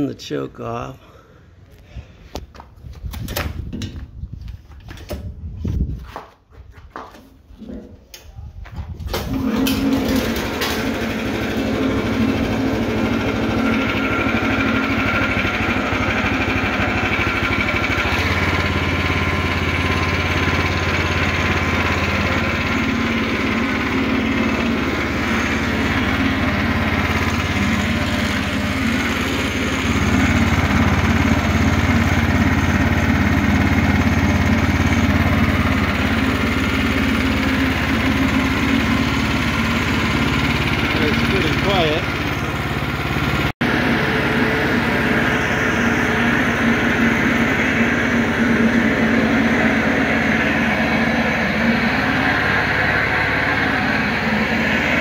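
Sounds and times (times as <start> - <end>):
mower engine running: 9.0 - 55.0.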